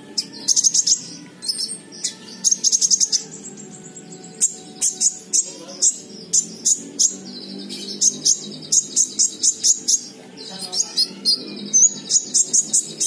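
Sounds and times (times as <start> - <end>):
bird buzzy trills: 0.0 - 13.0
sunbird chirping: 0.0 - 13.0.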